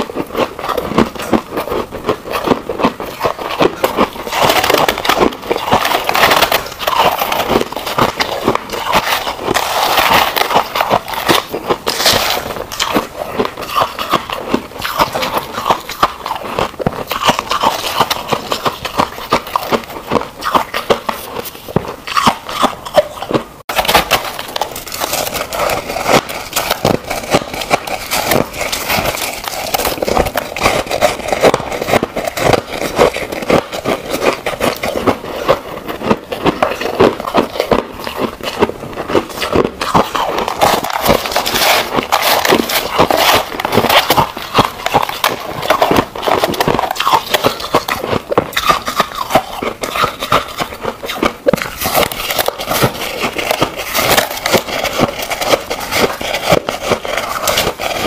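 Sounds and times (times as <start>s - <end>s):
crunching frost ice: 0.0s - 58.0s.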